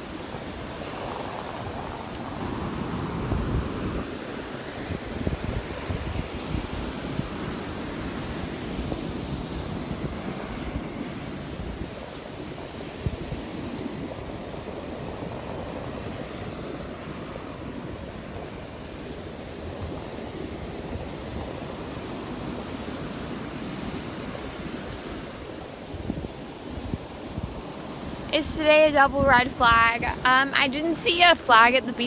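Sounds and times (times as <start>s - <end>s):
surf breaking on shore: 0.0s - 32.0s
wind buffeting microphone: 0.0s - 32.0s.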